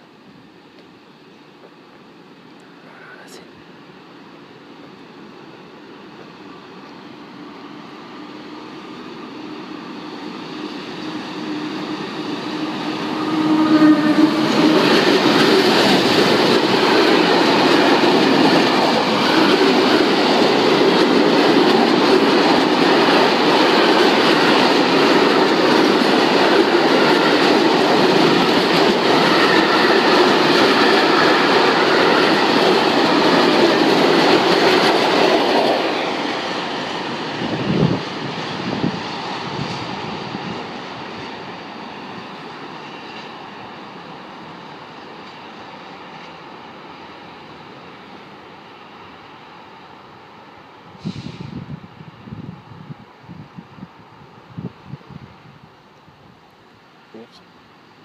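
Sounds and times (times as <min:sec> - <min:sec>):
electric locomotive passing: 0:00.0 - 0:58.0
freight train rumble and wheel clatter: 0:00.0 - 0:58.0.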